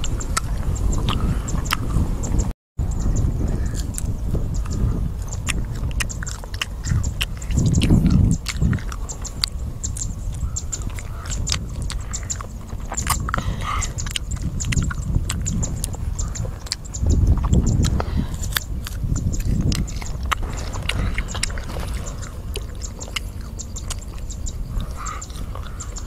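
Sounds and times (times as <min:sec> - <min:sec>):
crunchy chewing: 0:00.0 - 0:02.0, 0:03.4 - 0:26.0
wind rumble on microphone: 0:00.0 - 0:26.0.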